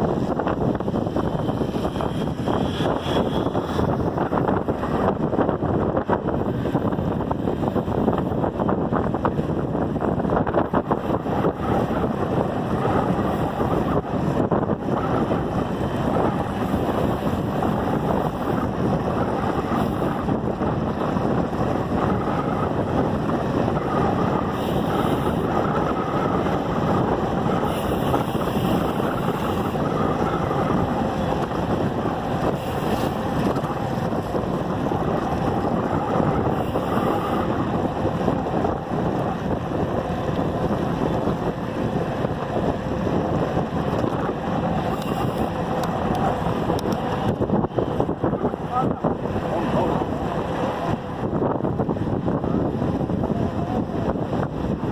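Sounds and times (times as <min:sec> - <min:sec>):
road noise: 0:00.0 - 0:54.9
wind rushing over microphone: 0:00.0 - 0:54.9.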